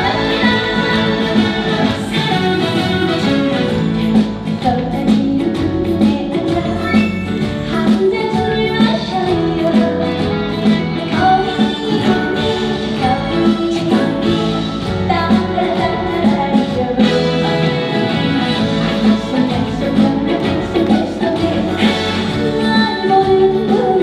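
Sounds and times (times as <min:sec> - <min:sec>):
live band music: 0:00.0 - 0:24.0.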